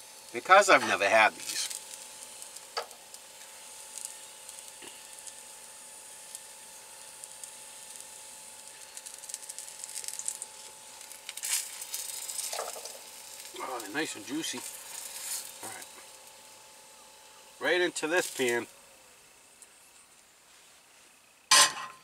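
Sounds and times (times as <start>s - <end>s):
sausages sizzling in a frying pan: 0.0s - 21.5s.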